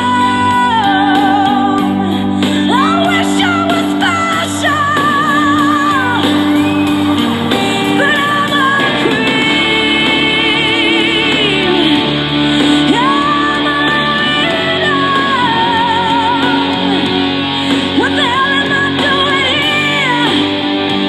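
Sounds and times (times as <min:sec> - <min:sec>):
slow rock song: 0:00.0 - 0:21.0.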